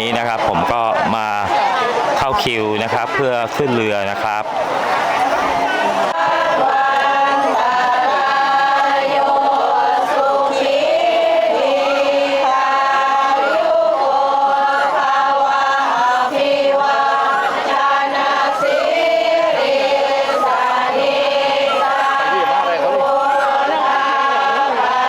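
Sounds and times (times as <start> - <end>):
voices chanting in unison: 0.0 - 25.0.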